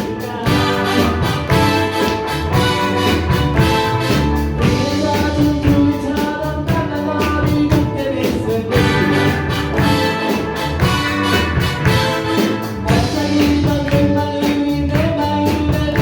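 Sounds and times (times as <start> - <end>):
person singing: 0.0 - 3.3, 4.6 - 16.0
drum kit beat: 0.0 - 16.0
rock band playing: 0.0 - 16.0.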